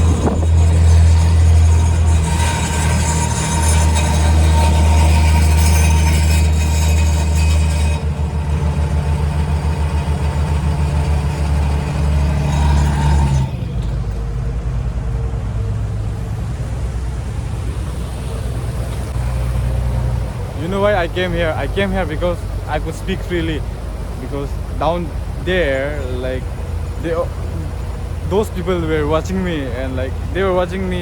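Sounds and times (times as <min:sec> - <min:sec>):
ferry engine humming: 0:00.0 - 0:31.0.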